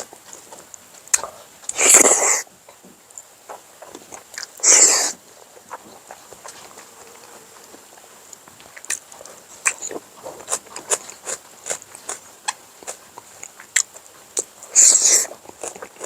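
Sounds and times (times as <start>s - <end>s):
chewing with mouth smacking: 0.0s - 16.0s.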